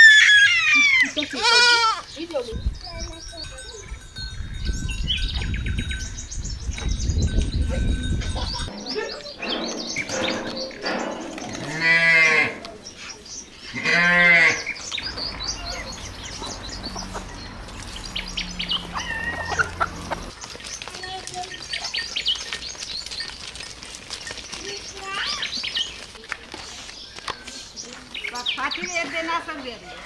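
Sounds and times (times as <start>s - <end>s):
drawn-out animal calls: 0.0s - 2.2s, 7.7s - 30.0s.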